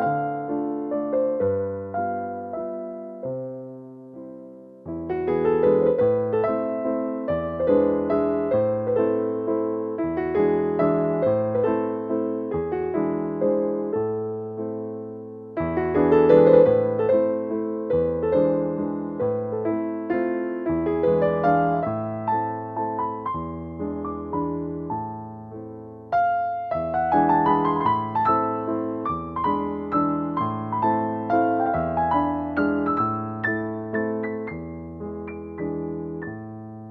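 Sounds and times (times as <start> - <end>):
gentle slow piano music: 0.0 - 36.9.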